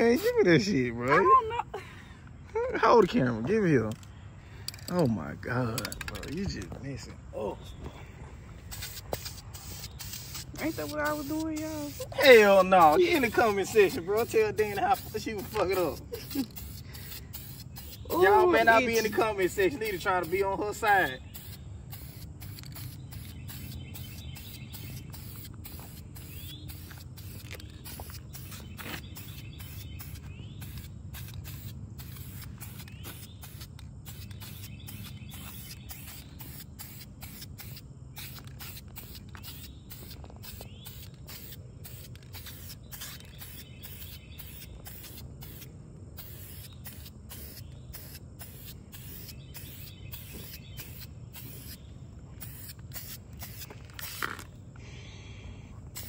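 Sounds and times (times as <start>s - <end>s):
spray paint can hissing: 8.6s - 54.5s.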